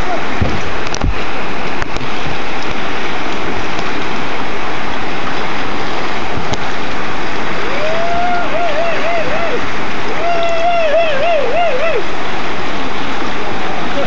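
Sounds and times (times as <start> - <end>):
whitewater rushing: 0.0 - 14.0.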